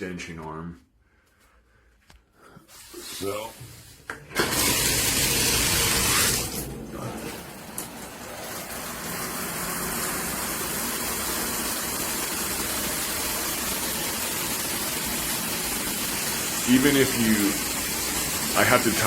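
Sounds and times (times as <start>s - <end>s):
shower head spraying water: 2.7s - 19.0s.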